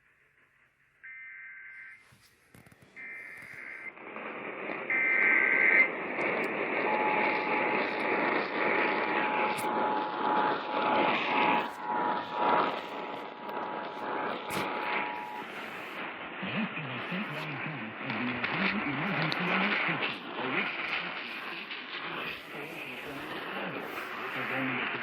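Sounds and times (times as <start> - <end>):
radio static: 1.9 - 25.0.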